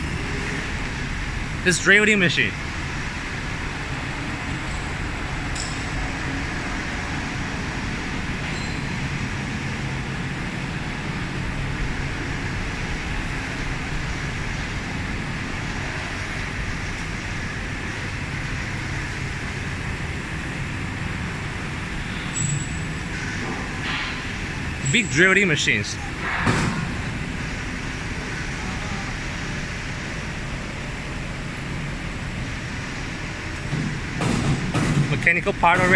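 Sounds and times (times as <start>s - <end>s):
machine shop equipment humming: 0.0s - 35.9s.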